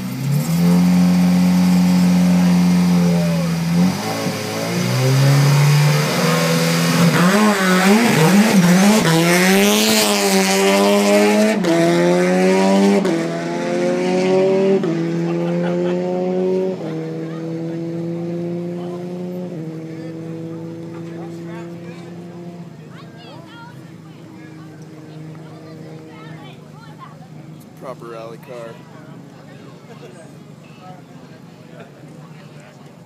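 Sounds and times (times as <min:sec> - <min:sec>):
car accelerating with quick upshifts: 0:00.0 - 0:27.9
rally car engine revving: 0:00.0 - 0:29.3.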